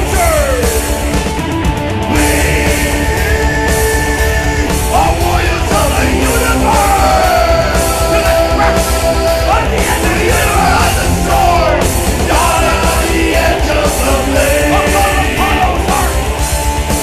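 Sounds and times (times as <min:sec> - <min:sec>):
man singing and yelling: 0:00.0 - 0:01.0, 0:02.0 - 0:16.5
rock band with electric guitars: 0:00.0 - 0:17.0.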